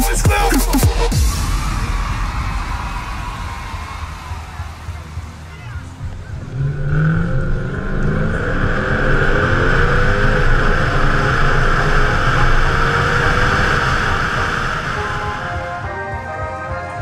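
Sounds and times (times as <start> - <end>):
car engine accelerating: 0.0 - 16.0
wind rushing over microphone: 1.2 - 15.7.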